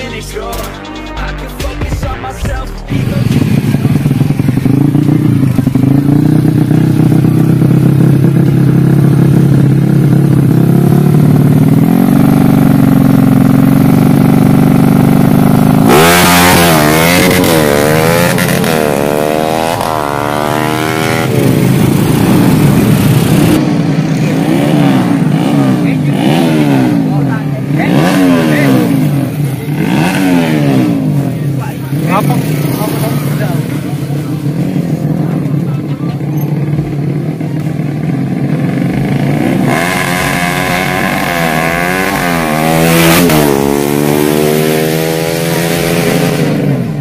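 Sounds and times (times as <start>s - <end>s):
motorcycle engine revving: 2.8s - 47.0s.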